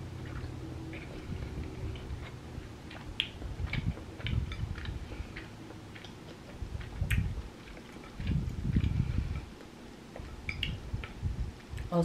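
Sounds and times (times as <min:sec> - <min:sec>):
chewing rice cakes: 0:00.0 - 0:11.9
wet mouth clicks and smacks: 0:00.2 - 0:11.2.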